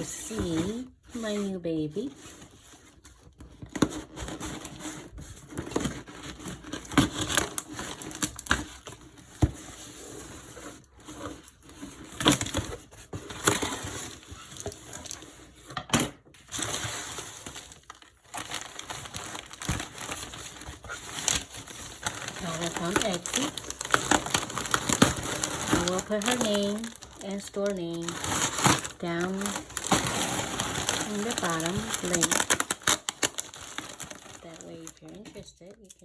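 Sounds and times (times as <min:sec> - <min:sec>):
packaging rustling and crinkling: 0:00.0 - 0:15.7, 0:16.4 - 0:36.0.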